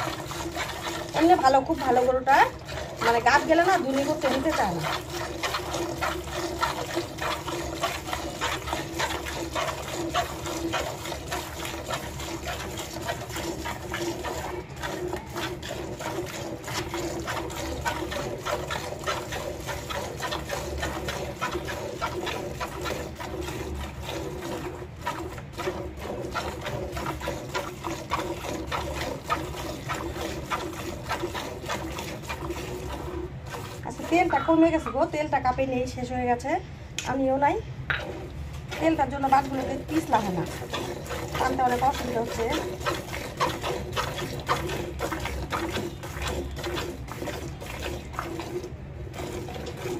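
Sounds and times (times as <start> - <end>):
milk squirting into a bucket: 0.0 - 35.2, 37.9 - 49.9.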